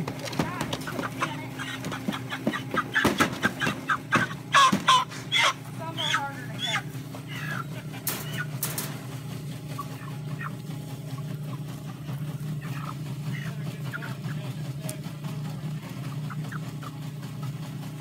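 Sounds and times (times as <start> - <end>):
chickens clucking: 0.0 - 18.0
low motor hum: 0.0 - 18.0.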